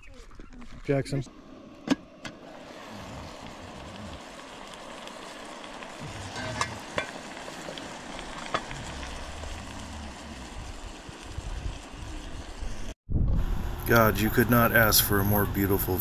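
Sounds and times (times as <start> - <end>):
camping stove hissing: 0.8 - 16.0.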